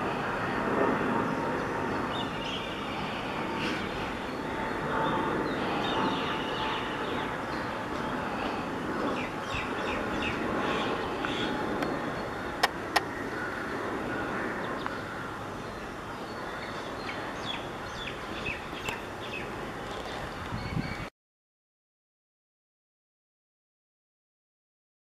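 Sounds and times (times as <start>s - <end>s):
jet engines rushing: 0.0s - 20.5s.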